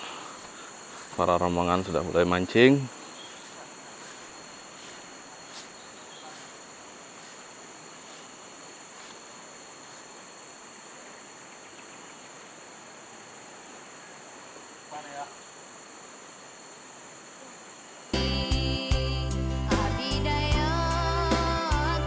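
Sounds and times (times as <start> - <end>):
insects droning: 0.0 - 22.0
soft hiss: 0.0 - 22.0.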